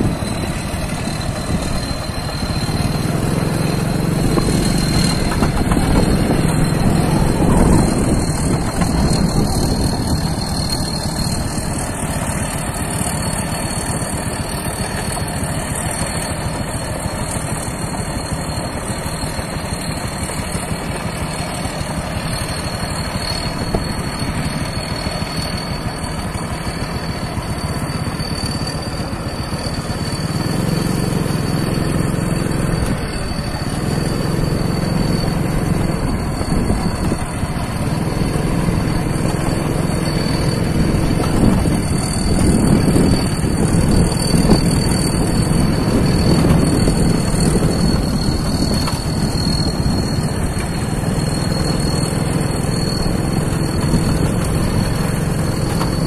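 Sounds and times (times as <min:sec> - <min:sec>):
combine harvester engine running: 0:00.0 - 0:56.0
thin high whine: 0:00.0 - 0:56.0.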